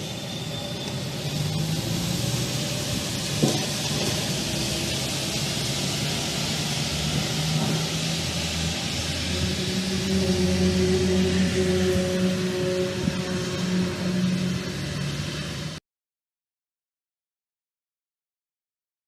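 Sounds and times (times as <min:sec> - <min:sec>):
low drone of held tones: 0:00.0 - 0:15.8.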